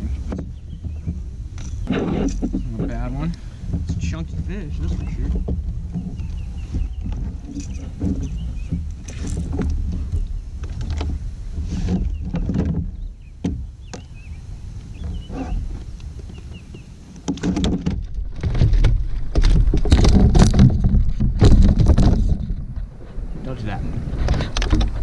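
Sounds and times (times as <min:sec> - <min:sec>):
knocks and rattles in a kayak: 0:00.0 - 0:25.0
wind rumbling on microphone: 0:00.0 - 0:25.0.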